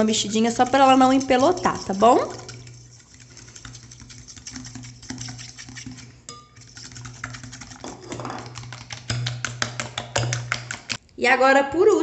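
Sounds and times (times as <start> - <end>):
whisk clicking against glass bowl: 0.0 - 11.0.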